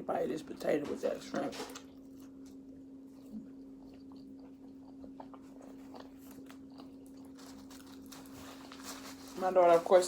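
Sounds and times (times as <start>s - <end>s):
steady low hum: 0.0s - 10.0s
close-miked chewing: 1.2s - 9.9s.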